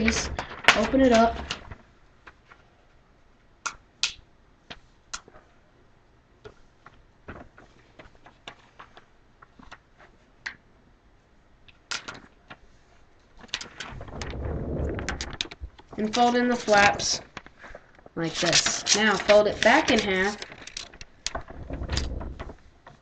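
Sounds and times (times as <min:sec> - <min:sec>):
paper crackling and tapping: 0:00.0 - 0:02.7, 0:04.0 - 0:05.5, 0:06.4 - 0:10.6, 0:11.7 - 0:23.0.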